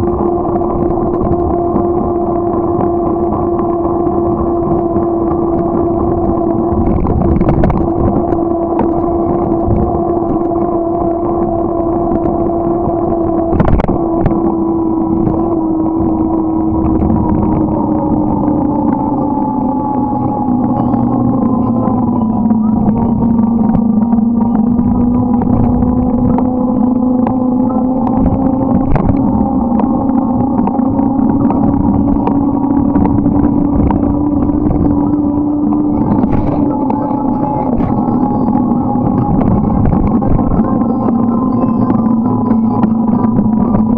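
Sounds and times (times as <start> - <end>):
road and wind rumble: 0.0 - 43.9
vehicle motor droning: 0.0 - 43.9.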